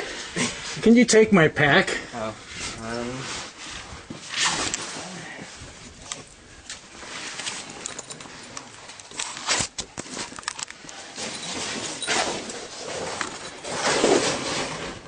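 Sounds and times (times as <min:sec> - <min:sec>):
clothing scraping against rock: 0:02.5 - 0:15.0.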